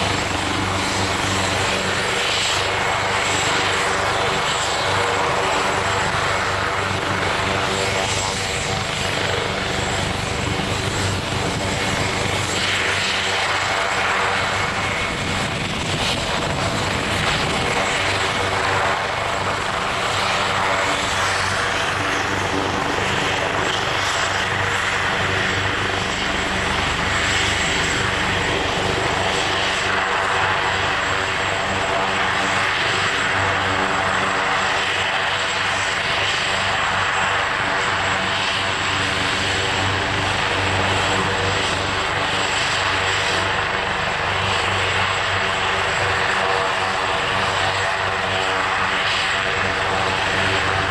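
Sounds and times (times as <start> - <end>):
helicopter rotor beat: 0.0 - 50.9
helicopter turbine whine: 0.0 - 50.9.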